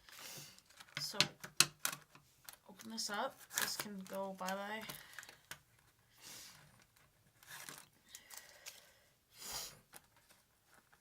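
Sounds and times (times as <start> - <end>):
packaging rustling and crinkling: 0.0 - 8.9, 9.8 - 11.0.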